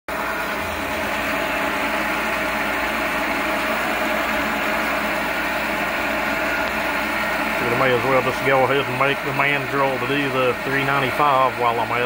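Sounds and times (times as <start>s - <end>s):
metal lathe cutting metal: 0.1s - 12.0s.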